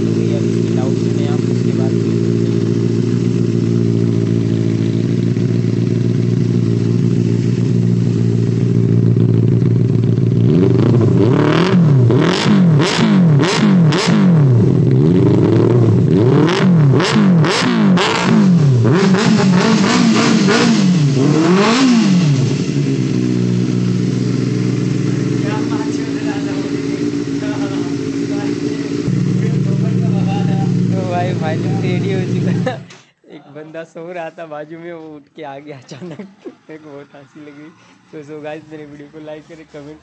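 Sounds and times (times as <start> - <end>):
motorcycle engine idling and revving: 0.0 - 32.9
exhaust cracks: 0.0 - 33.2.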